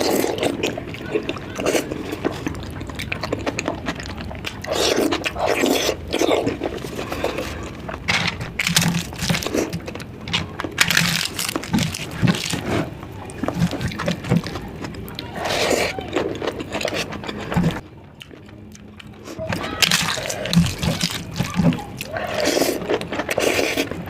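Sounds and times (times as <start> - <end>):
wet chewing: 0.0 - 24.0.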